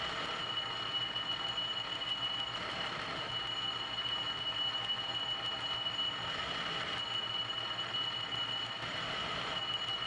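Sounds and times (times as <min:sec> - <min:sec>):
high machine whine: 0:00.0 - 0:10.0.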